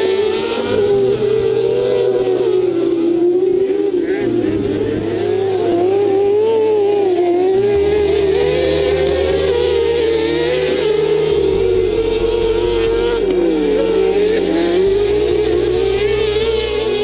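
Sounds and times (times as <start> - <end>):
background music with bass: 0.0 - 17.0
buggy engine revving: 0.0 - 17.0.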